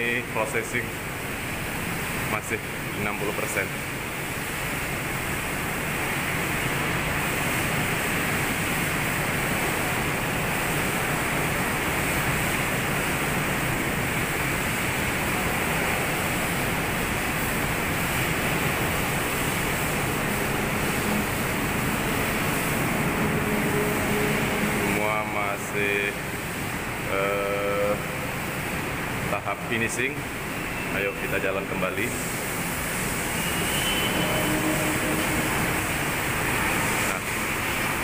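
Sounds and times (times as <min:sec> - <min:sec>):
loud steady rushing noise: 0:00.0 - 0:38.0.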